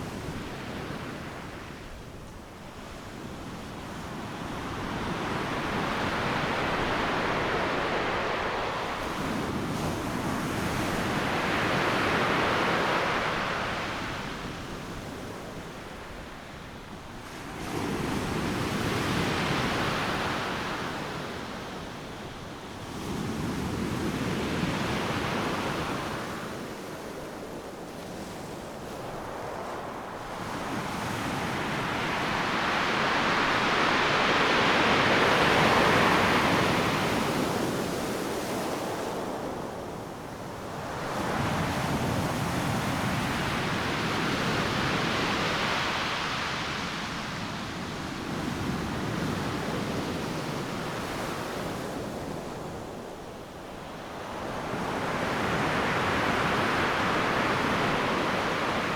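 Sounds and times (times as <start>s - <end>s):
ocean waves breaking on beach: 0.0s - 15.0s, 15.6s - 58.9s.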